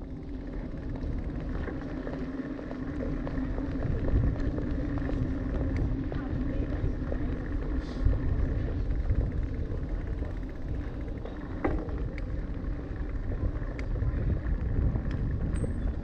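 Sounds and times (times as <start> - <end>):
bicycle rolling over paving: 0.0 - 16.0.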